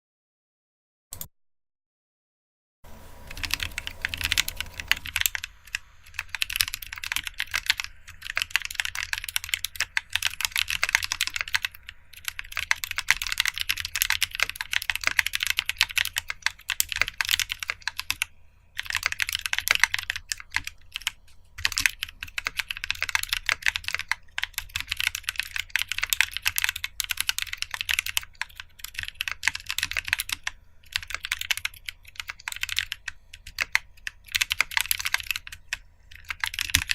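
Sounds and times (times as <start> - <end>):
fast typing on mechanical keyboard: 3.2 - 36.9.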